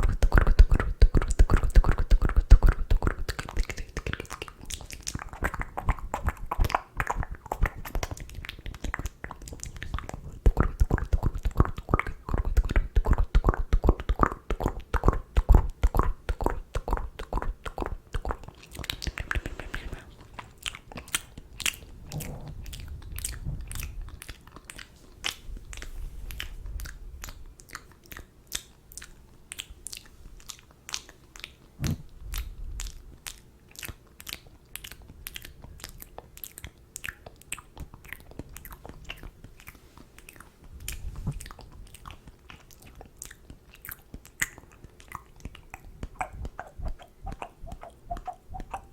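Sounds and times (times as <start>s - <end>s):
tongue and lip clicks: 0.0s - 48.9s.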